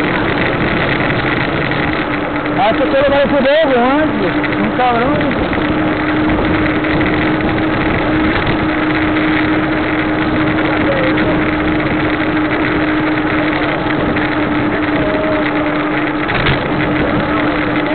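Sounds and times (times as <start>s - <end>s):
low hum: 0.0s - 17.9s
wind noise on microphone: 0.0s - 17.9s.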